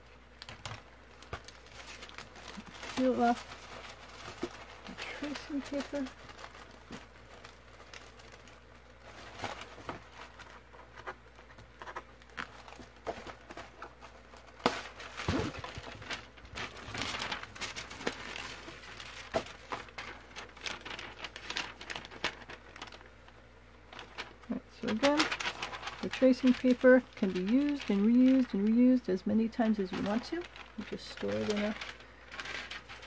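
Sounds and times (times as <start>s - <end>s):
paper rustling and crinkling: 0.0s - 33.0s.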